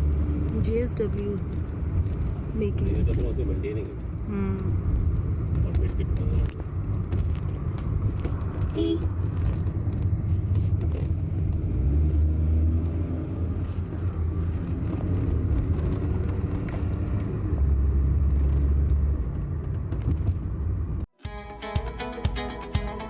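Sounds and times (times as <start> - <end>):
car engine and tyres rumbling: 0.0 - 21.1.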